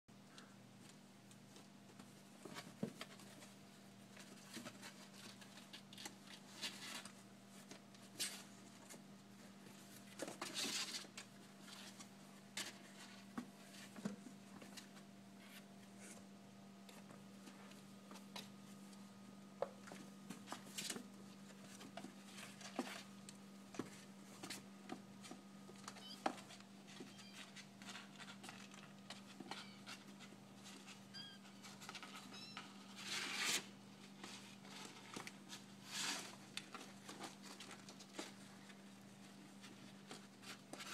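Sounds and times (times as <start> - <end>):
kittens scrabbling in a box: 1.5 - 16.2, 19.6 - 40.9.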